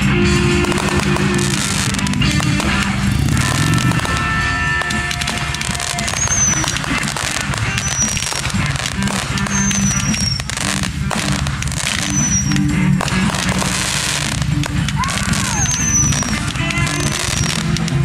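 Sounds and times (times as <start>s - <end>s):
fireworks crackling and banging: 0.0s - 18.0s.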